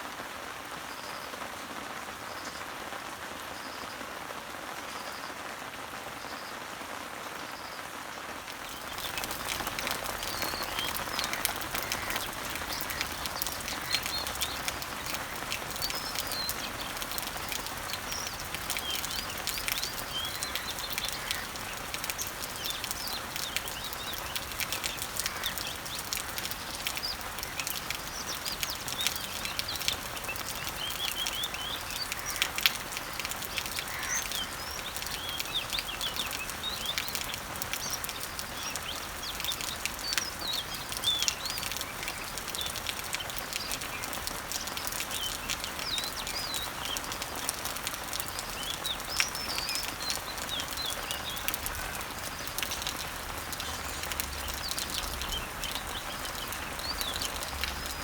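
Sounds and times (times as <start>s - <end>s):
rain pattering on leaves: 0.0s - 58.0s
birds chirping: 8.5s - 58.0s.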